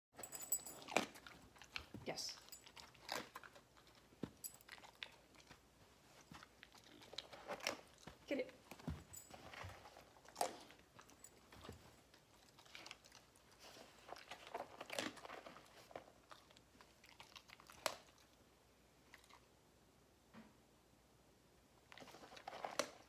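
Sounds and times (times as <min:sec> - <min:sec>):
dog crunching treats: 0:00.2 - 0:18.4, 0:21.9 - 0:23.0.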